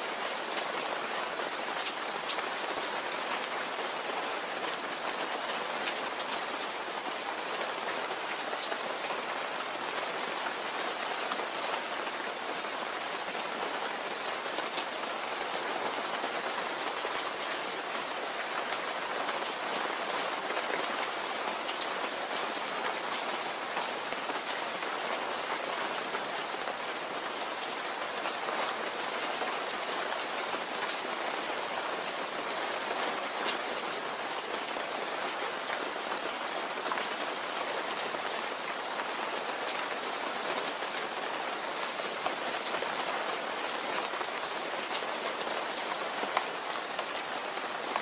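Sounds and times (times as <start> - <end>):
rain pattering: 0.0 - 48.0.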